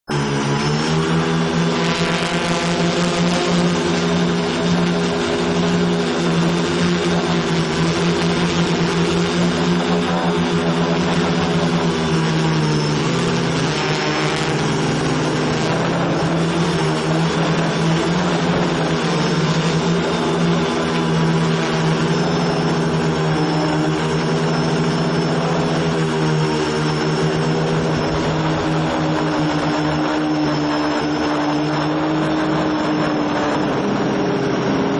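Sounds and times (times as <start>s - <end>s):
drone propellers buzzing: 0.0s - 34.9s.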